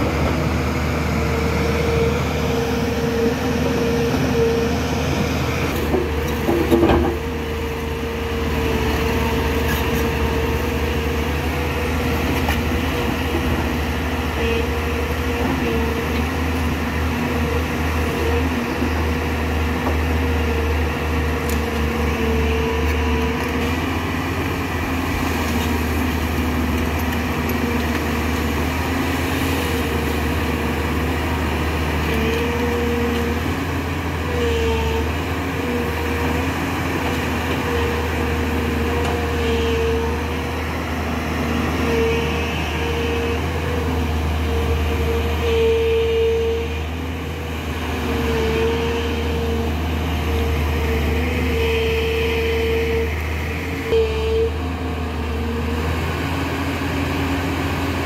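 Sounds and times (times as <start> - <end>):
excavator engine rumble: 0.0 - 58.0.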